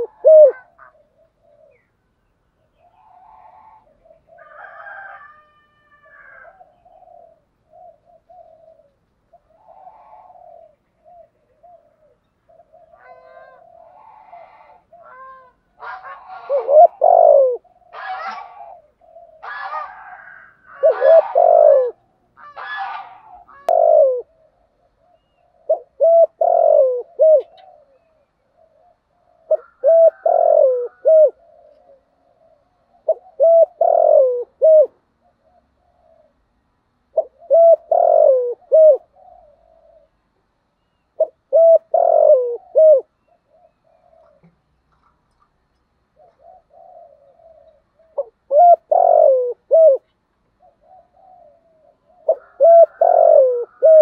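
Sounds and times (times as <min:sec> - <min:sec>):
dove cooing: 0:00.0 - 0:45.2, 0:46.0 - 0:54.0.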